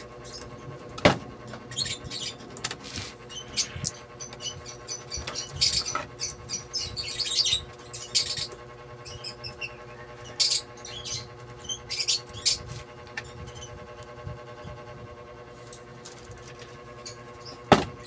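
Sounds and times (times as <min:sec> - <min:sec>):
wire scraping and squeaking: 0:00.0 - 0:14.9, 0:15.6 - 0:18.0.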